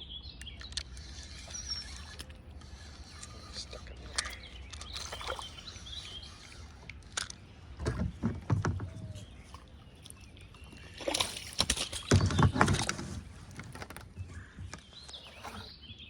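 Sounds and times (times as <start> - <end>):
water splashing against kayak: 0.6 - 16.0.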